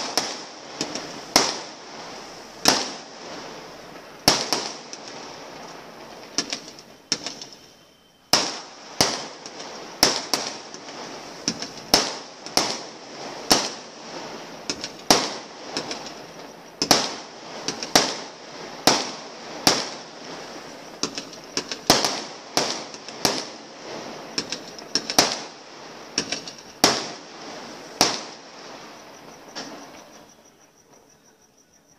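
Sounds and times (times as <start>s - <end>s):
firework bangs echoing: 0.0s - 30.2s.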